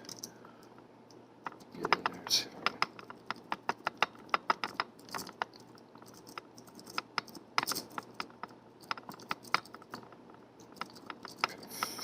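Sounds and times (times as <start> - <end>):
metallic clicks and scrapes: 1.5 - 12.0.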